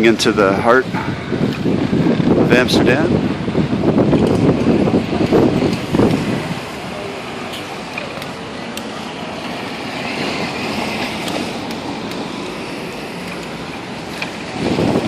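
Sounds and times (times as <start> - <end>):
street traffic noise: 0.0 - 15.0
wind rushing over microphone: 0.0 - 15.0.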